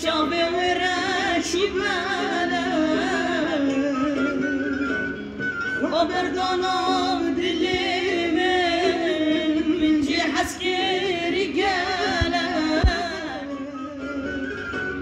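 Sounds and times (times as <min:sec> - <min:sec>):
person singing folk song: 0:00.0 - 0:15.0.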